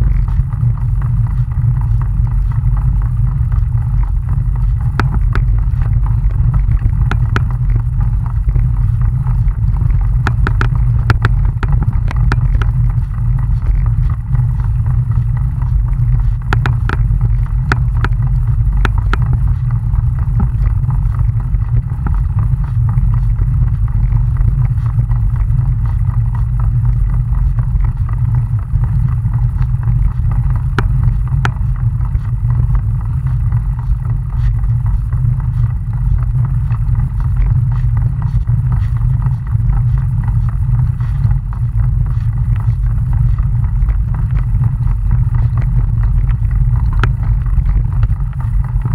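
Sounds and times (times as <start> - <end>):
sharp clicks and rattles: 0.0 - 48.9
wind buffeting microphone: 0.0 - 48.9.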